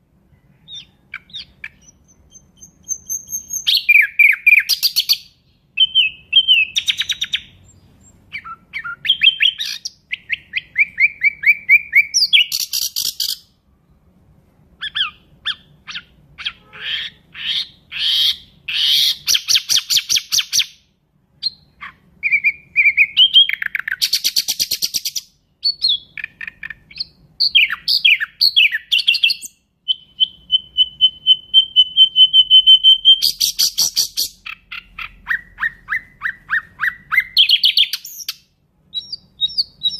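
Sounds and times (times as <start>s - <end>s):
nightingale singing: 0.0s - 14.0s, 14.8s - 39.9s.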